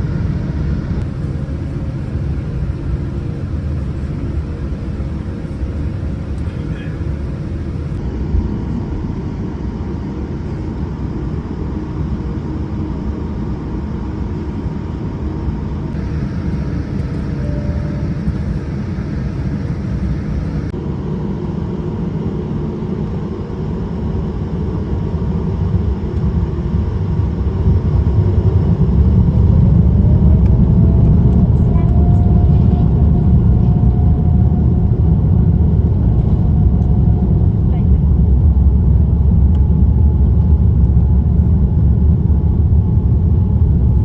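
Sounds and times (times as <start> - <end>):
airliner cabin rumble: 0.0 - 44.0.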